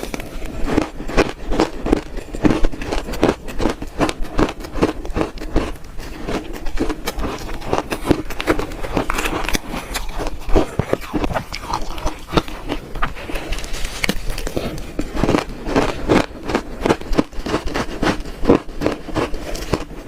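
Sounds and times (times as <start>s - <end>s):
ice being crunched by chewing: 0.0s - 20.0s.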